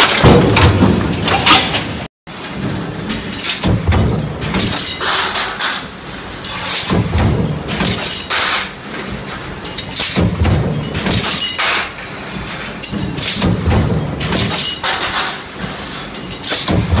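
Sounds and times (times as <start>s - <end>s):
stamping press machine drone: 0.0s - 17.0s.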